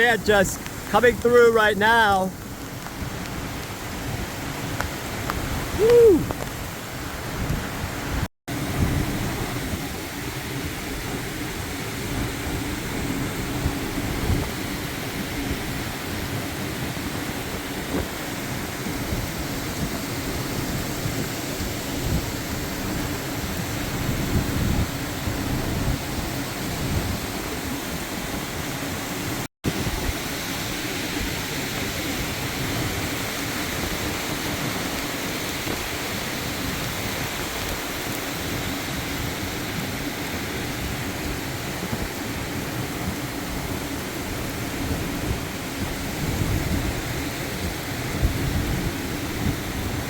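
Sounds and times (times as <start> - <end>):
gusting wind: 0.0 - 50.0
heavy rain: 0.0 - 50.0.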